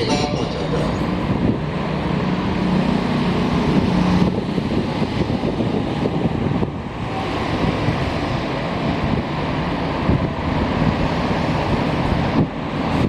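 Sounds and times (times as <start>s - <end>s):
electric train rumbling: 0.0s - 13.0s
wind on microphone: 0.0s - 13.0s.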